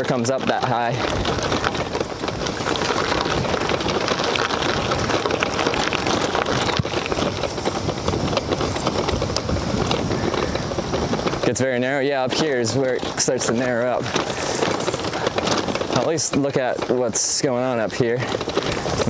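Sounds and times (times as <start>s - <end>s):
wind rushing on microphone: 0.0s - 16.0s
bicycle tyres crackling and rattling: 0.0s - 19.0s.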